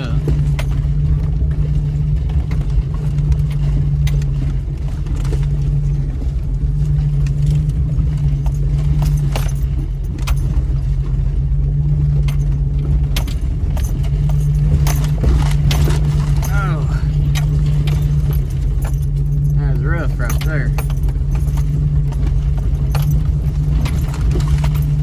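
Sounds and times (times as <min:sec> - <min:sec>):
car engine low drone: 0:00.0 - 0:25.0
clinks and rattles: 0:00.0 - 0:25.0.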